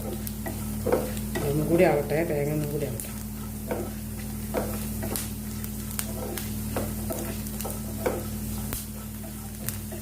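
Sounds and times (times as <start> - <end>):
spoon scraping a pan: 0.0 - 1.6, 3.0 - 10.0
food sizzling in a pan: 0.0 - 10.0.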